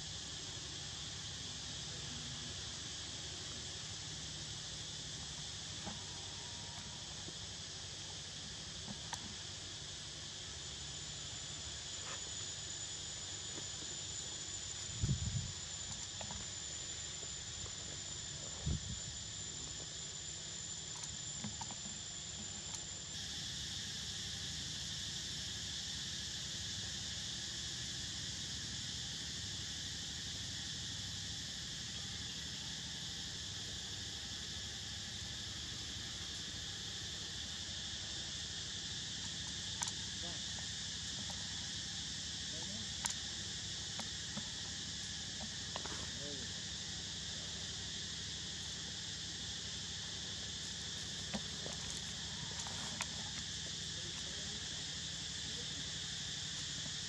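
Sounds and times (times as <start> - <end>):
forest insects chorus: 0.0 - 57.0.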